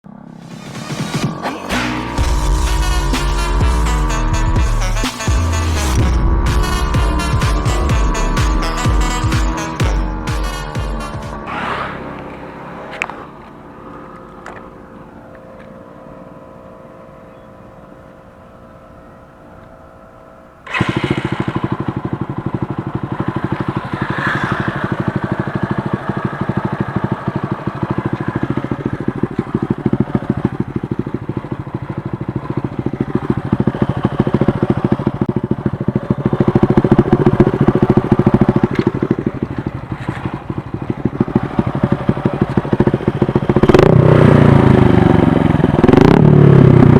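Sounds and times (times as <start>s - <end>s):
motorcycle engine running loud: 0.0s - 46.9s
motorcycle engine starting: 0.0s - 46.9s.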